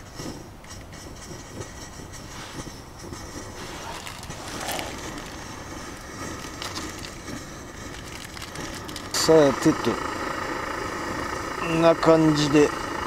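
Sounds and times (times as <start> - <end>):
priming flame rushing: 0.0 - 11.6.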